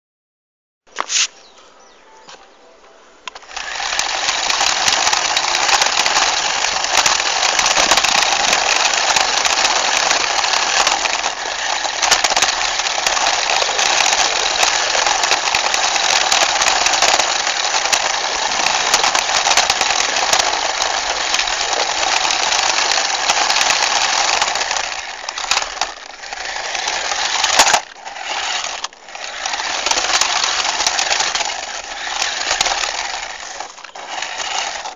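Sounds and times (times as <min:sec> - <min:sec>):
toy car motor rattling: 0:03.3 - 0:34.9.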